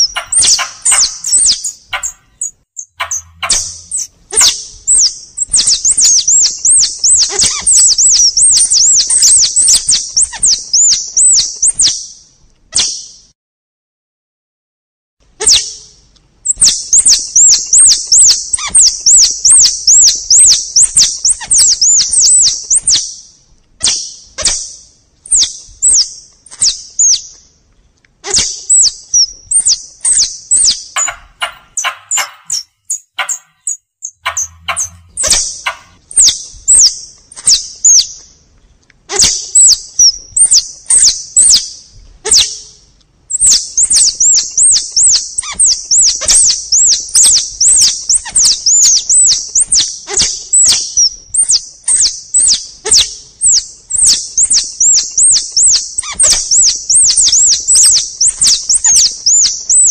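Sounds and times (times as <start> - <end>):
squirrel calls high chirps: 0.0 - 12.2, 15.4 - 27.3, 28.2 - 38.3, 39.1 - 59.9.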